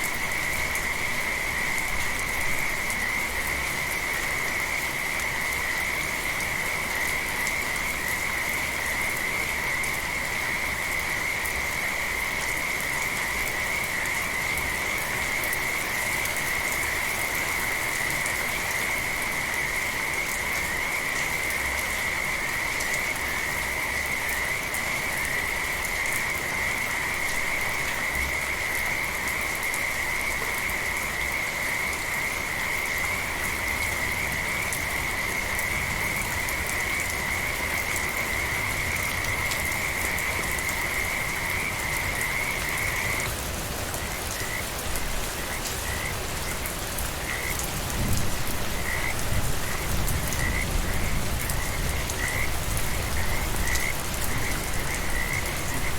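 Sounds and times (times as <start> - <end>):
light rain: 0.0 - 55.9
frogs trilling: 0.4 - 55.9.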